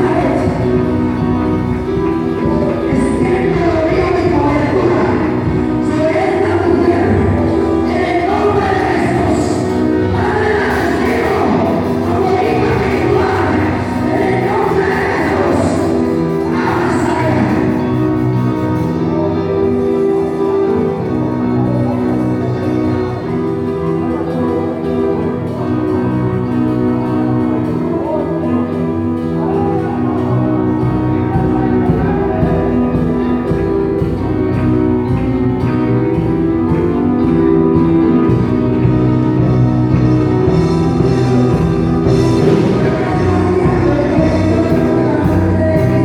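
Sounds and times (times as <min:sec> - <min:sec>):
slow instrumental music from speaker: 0:00.0 - 0:46.0.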